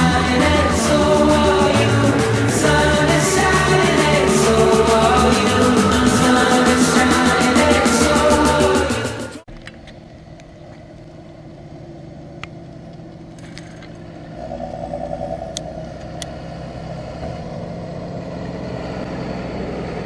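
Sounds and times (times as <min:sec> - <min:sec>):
diesel engine running: 0:00.0 - 0:09.5, 0:11.0 - 0:20.0.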